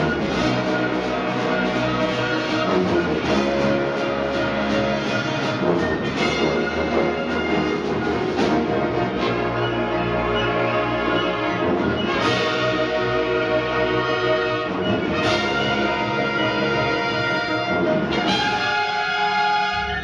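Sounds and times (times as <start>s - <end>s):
concert band brass chords: 0.0s - 20.0s.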